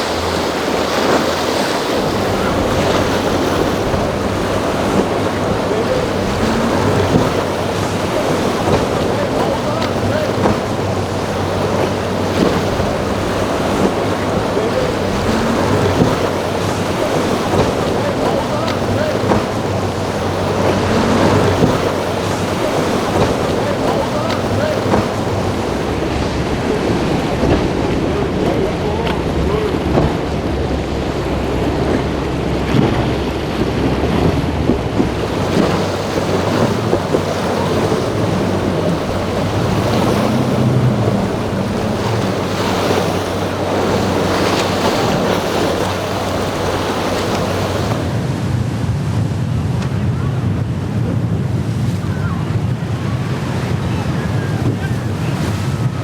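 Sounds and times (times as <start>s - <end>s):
boat engines running: 0.0s - 56.0s
waves washing: 0.0s - 56.0s
wind buffeting microphone: 0.0s - 56.0s.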